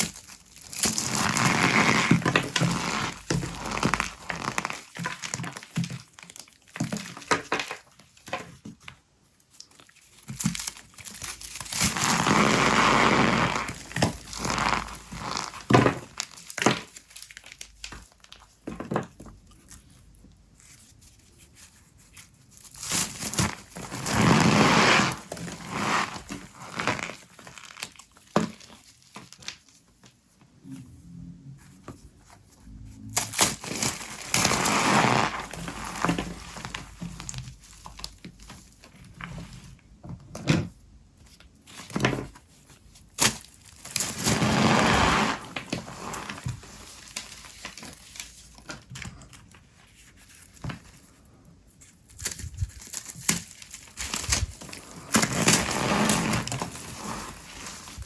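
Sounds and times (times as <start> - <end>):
brittle soap crunching and crackling: 0.0 - 30.1, 33.2 - 58.0.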